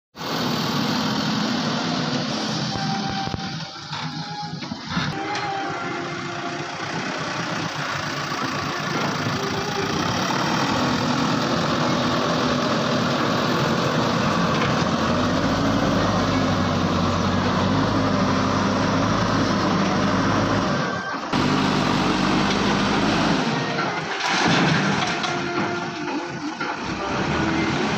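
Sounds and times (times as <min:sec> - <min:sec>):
diesel engine running: 0:00.2 - 0:27.9.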